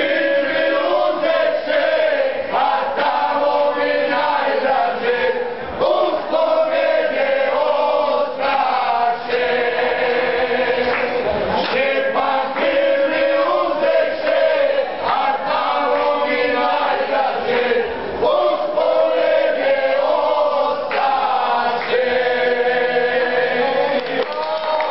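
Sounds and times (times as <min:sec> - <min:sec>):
men singing together: 0:00.0 - 0:24.9.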